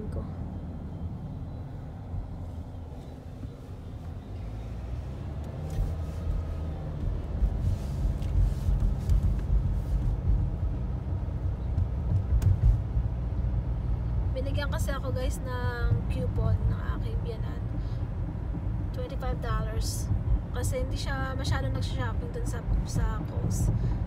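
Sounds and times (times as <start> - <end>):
tyres and engine rumble in car: 0.0 - 24.0.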